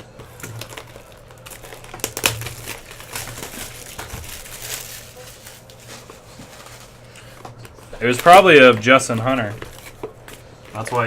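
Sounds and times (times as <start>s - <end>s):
wrapping crinkling and tearing: 0.0s - 11.0s.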